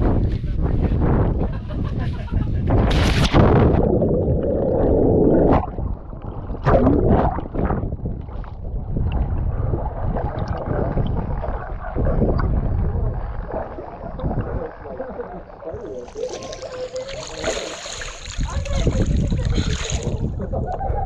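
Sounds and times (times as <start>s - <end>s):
water splashing and gurgling: 2.7s - 21.0s.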